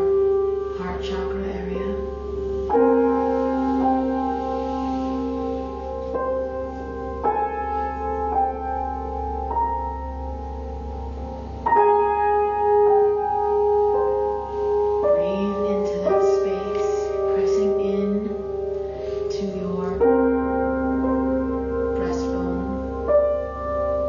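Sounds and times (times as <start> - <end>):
soft slow piano: 0.0 - 24.0.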